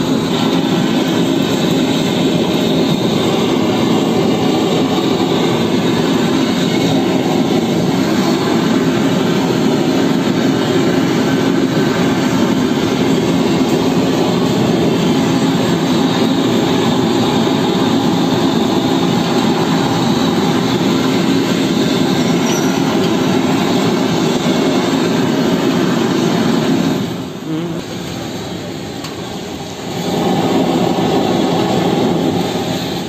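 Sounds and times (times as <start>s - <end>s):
blowtorch flame roaring: 0.0s - 33.0s.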